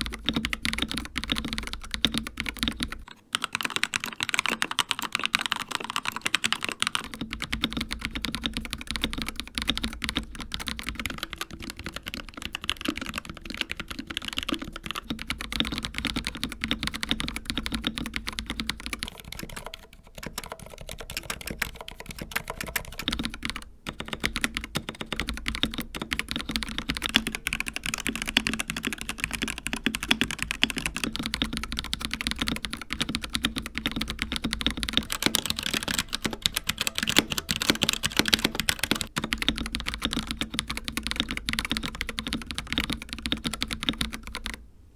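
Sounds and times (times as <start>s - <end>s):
mechanical keyboard typing: 0.0s - 44.6s.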